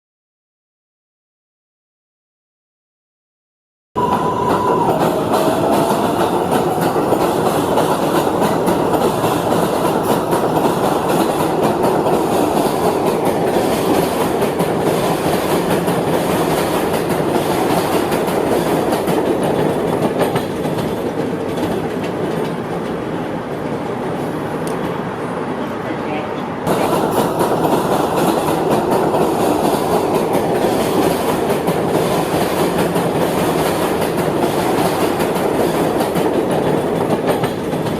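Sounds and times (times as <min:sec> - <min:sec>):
train wheels rumbling on rails: 0:04.0 - 0:37.9.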